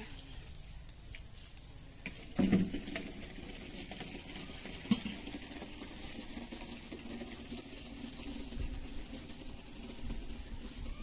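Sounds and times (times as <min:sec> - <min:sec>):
footsteps on muddy path: 0:00.0 - 0:11.0.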